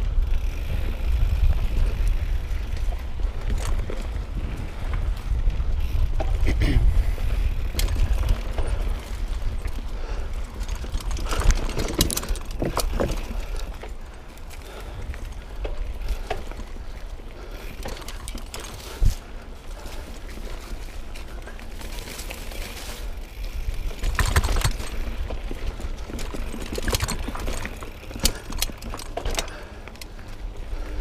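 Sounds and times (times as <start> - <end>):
bike clicks and rattles: 0.0 - 31.0
tyres on dirt: 0.0 - 31.0
wind rumble on microphone: 0.0 - 31.0.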